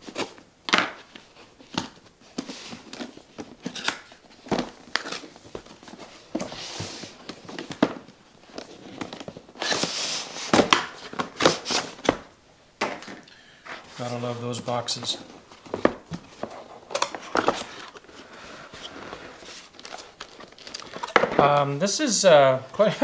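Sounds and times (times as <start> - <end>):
cardboard scraping and rustling: 0.0 - 12.3, 13.7 - 21.6.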